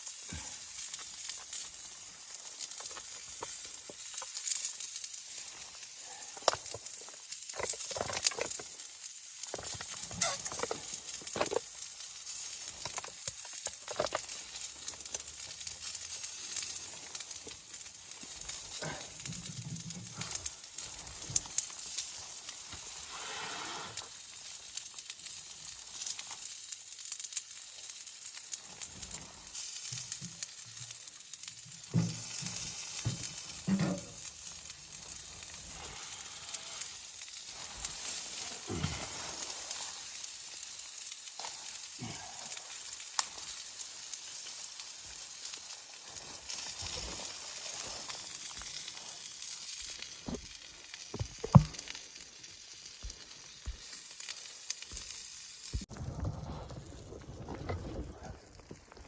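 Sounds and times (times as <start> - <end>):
sizzling hiss: 0.0 - 56.0.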